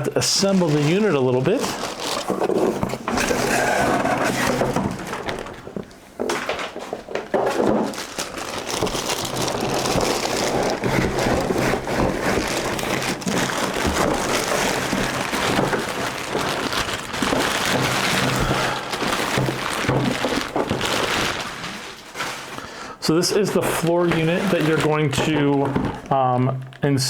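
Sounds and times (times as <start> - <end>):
plastic packaging crinkling: 0.0 - 26.8.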